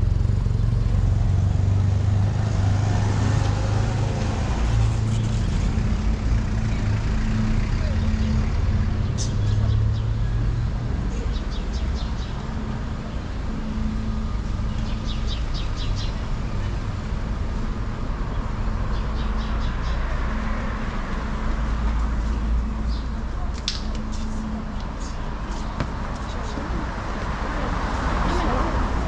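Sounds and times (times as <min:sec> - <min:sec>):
low rumble of traffic: 0:00.0 - 0:29.0.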